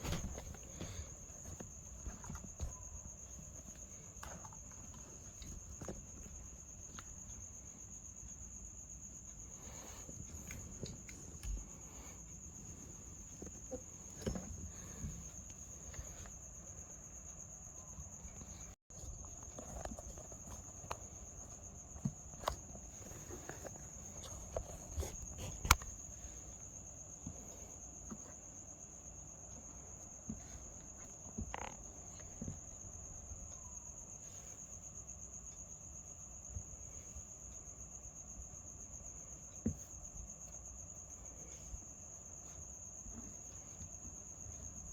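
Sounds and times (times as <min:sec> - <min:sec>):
crickets chirring: 0:00.0 - 0:44.9.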